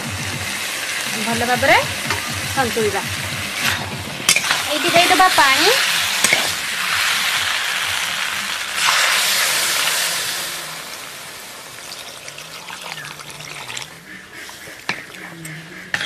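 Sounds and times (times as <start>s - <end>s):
water sizzling in a hot pan: 0.0s - 13.9s.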